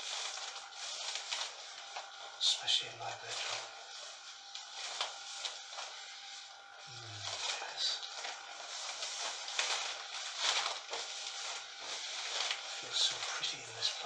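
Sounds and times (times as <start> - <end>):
plastic mac rustling and crinkling: 0.0 - 2.4, 3.1 - 14.0.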